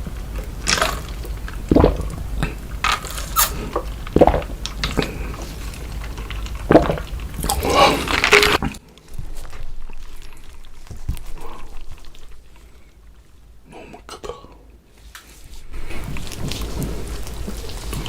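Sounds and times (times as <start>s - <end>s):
wet chewing and mouth sounds: 0.0s - 13.4s, 15.8s - 18.0s.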